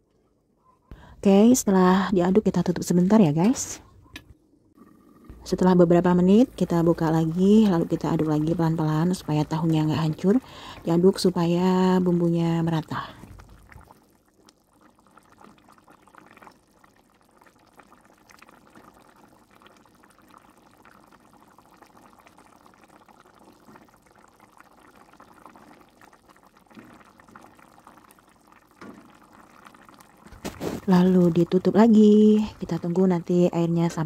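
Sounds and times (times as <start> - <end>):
sauce bubbling and popping: 4.2 - 33.9.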